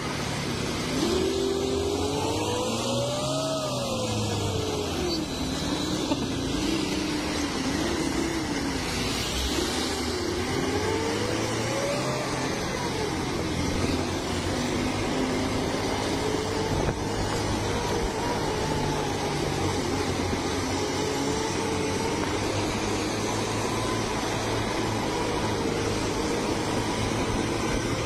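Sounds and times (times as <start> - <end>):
bus diesel engines running hard: 0.0 - 28.0
road and wind noise: 0.0 - 28.0.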